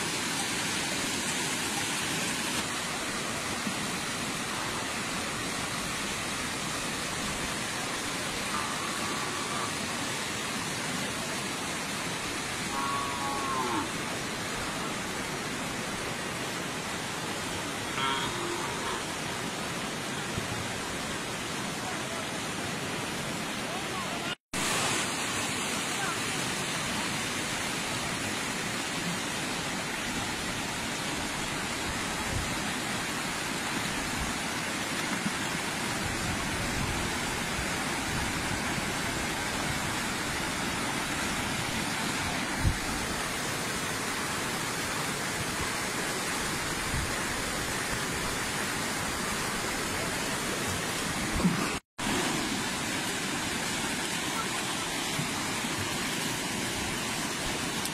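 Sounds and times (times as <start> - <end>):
river water rushing: 0.0 - 57.9.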